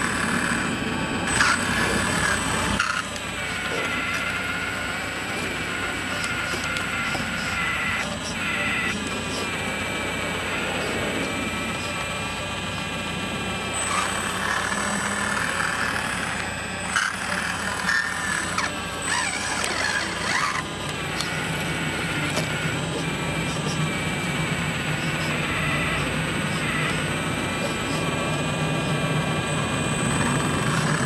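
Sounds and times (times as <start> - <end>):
hydraulic pump whining: 0.0 - 31.0.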